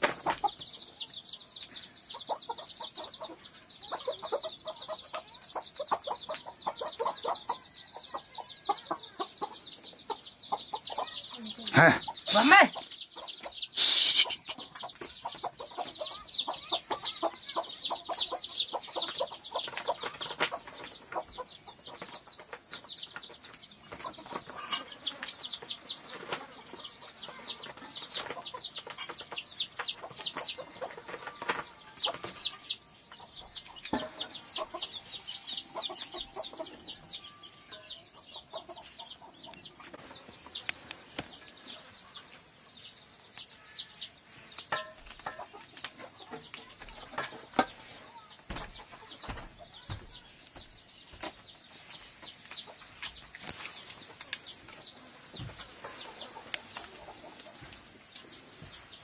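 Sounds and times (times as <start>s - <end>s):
chickens cheeping: 0.0s - 59.0s.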